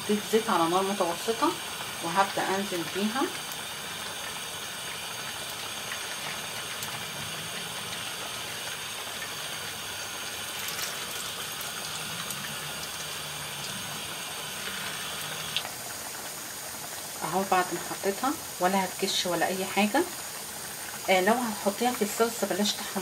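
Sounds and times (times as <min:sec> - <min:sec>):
food frying in hot oil: 0:00.0 - 0:23.0.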